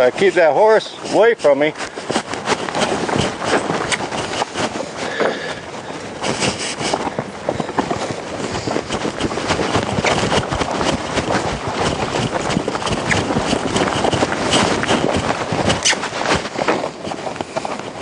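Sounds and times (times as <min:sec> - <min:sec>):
horse hoofbeats on sand: 0:00.0 - 0:18.0.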